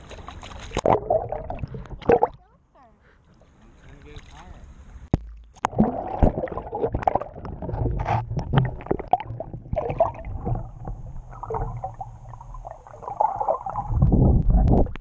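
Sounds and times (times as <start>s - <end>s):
underwater churning and bubbling: 0.0s - 2.4s, 5.2s - 15.0s.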